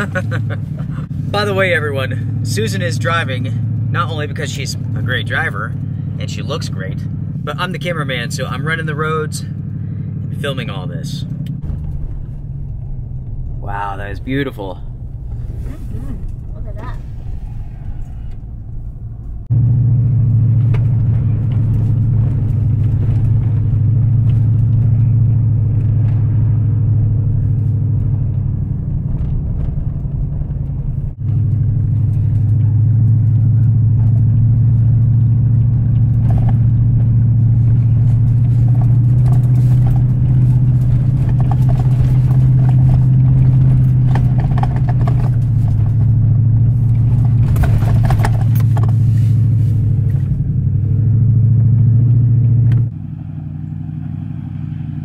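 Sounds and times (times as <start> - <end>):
road noise on dirt road: 0.0 - 55.0
truck engine drone: 0.0 - 55.0.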